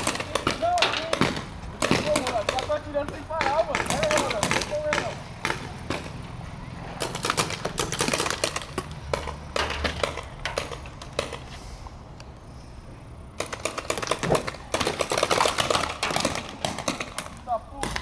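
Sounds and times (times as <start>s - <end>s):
paintball markers firing: 0.0s - 6.2s, 7.0s - 11.4s, 13.4s - 18.0s.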